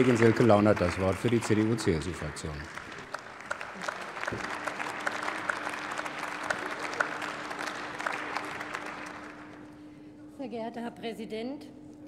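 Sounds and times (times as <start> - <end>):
crowd applause: 0.0 - 9.8
faint steady hum: 0.0 - 12.0.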